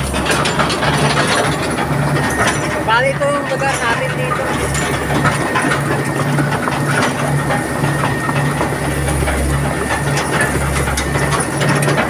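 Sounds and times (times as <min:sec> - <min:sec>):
diesel engine droning: 0:00.0 - 0:12.0
tracks and cab rattling: 0:00.0 - 0:12.0.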